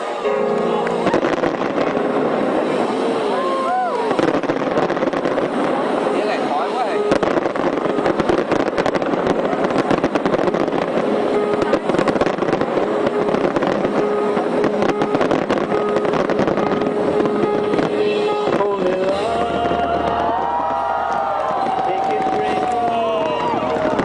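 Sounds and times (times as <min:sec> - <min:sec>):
fireworks crackling and popping: 0:00.0 - 0:24.0
loud crowd din: 0:00.0 - 0:24.0.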